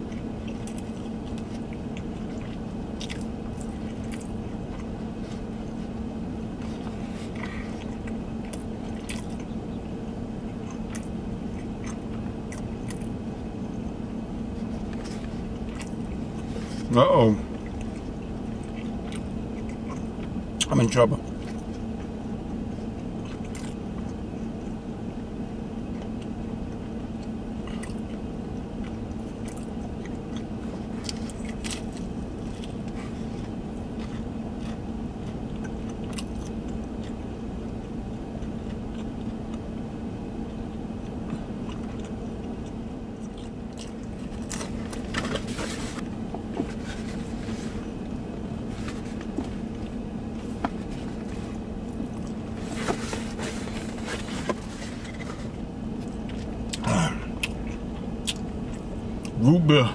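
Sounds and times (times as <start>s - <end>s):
car cabin low hum: 0.0s - 59.9s
chewing crisp pizza: 0.0s - 59.9s.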